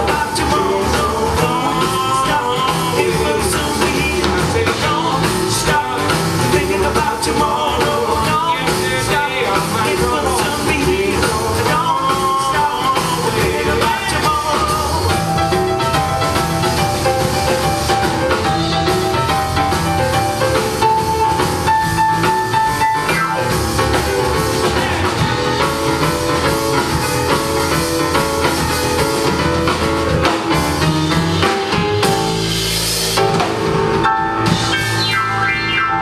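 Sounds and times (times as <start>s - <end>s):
boogie-woogie piano: 0.0s - 36.0s
drum kit: 0.0s - 36.0s
upright bass: 0.0s - 36.0s.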